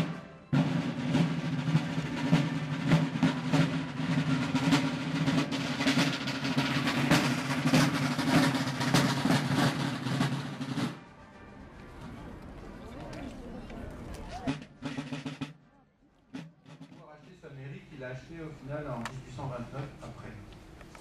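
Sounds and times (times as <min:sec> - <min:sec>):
marching field drums: 0:00.0 - 0:20.2.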